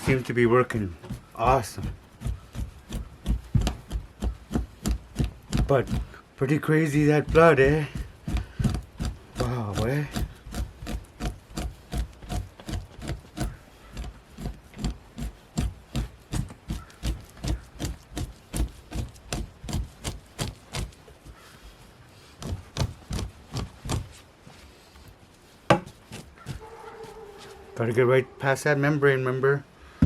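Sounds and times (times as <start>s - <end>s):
hand scraper strokes on hide: 0.0s - 29.0s.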